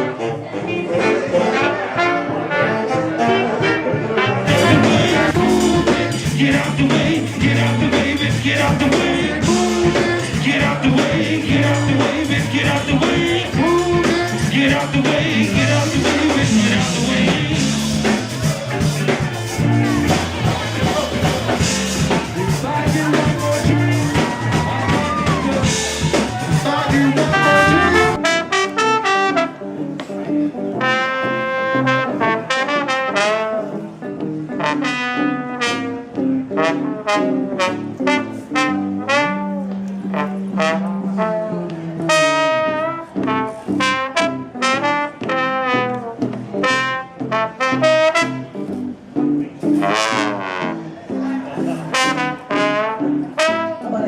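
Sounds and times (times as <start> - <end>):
brass horns playing melody: 0.0 - 18.4, 19.4 - 29.8, 30.7 - 33.8, 34.5 - 48.7, 49.8 - 51.0, 51.8 - 54.0
jazz band with drums and bass: 0.0 - 54.0.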